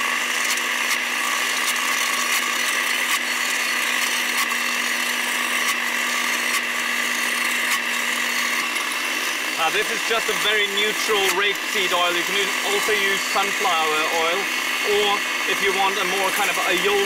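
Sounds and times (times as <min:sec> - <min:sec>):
blender whirring: 0:00.0 - 0:17.0.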